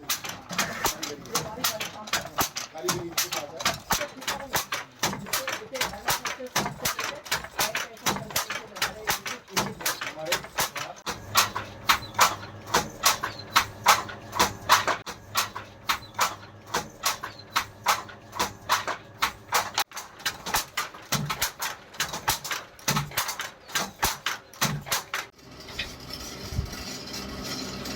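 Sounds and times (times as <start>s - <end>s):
wooden handloom clacking: 0.0s - 27.9s.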